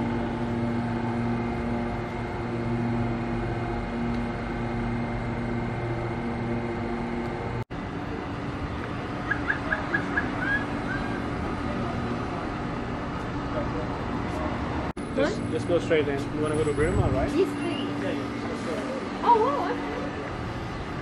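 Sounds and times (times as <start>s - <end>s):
train electric hum and tones: 0.0s - 21.0s.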